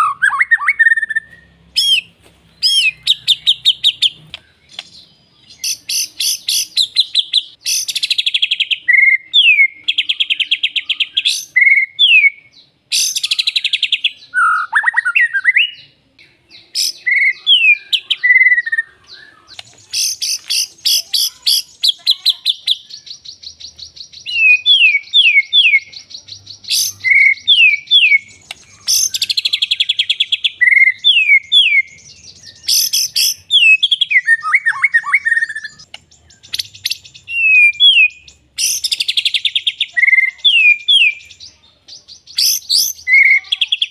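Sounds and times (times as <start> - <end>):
songbird singing: 0.0 - 43.9.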